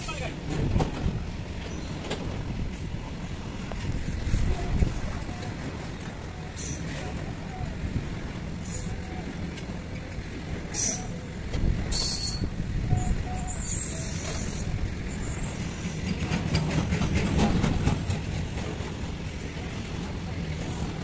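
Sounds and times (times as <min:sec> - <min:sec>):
train wheels rumbling on rails: 0:00.0 - 0:21.0
wheels clattering over rail joints: 0:00.0 - 0:21.0.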